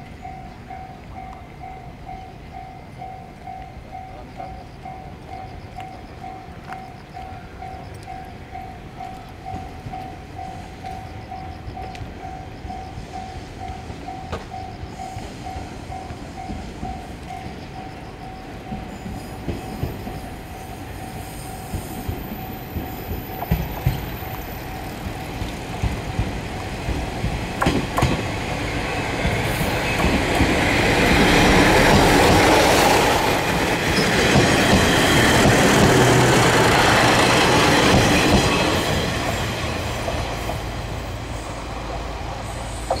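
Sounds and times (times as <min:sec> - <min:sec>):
diesel train passing: 0:00.0 - 0:43.0.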